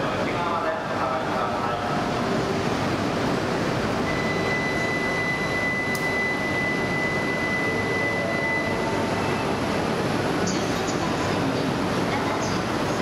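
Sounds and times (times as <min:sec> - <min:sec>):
station and train hum: 0:00.0 - 0:13.0.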